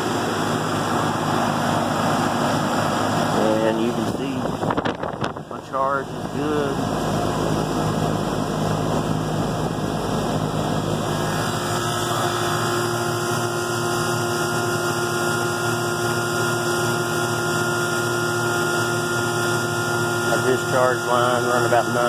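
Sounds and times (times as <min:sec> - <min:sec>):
heat pump compressor and fan humming: 0:00.0 - 0:22.0.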